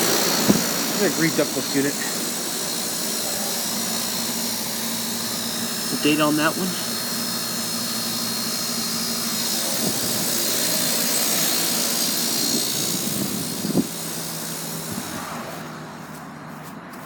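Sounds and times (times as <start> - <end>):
low compressor hum: 0.0 - 16.9
condenser fan rushing air: 0.0 - 17.0.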